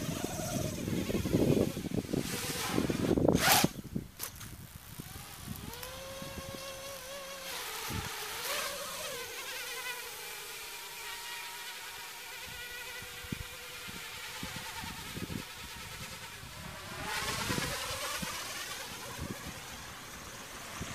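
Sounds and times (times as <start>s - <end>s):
model aircraft engine buzzing: 0.0s - 20.9s.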